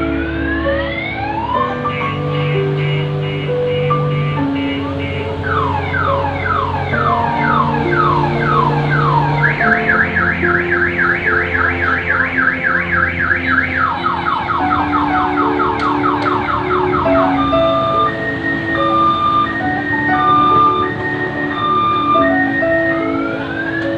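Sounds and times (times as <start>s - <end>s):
background music with held notes: 0.0s - 23.9s
electronic siren alarm: 1.0s - 23.9s.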